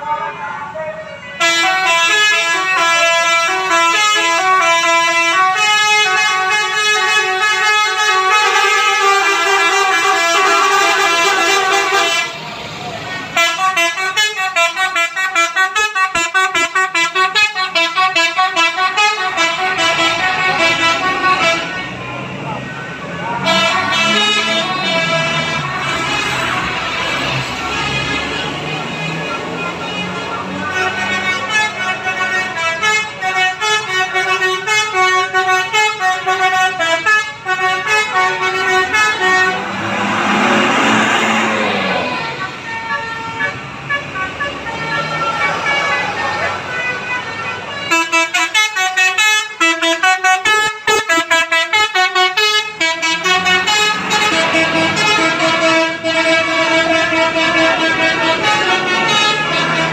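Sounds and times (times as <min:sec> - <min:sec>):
multi-tone bus horn melody: 0:00.0 - 0:59.9.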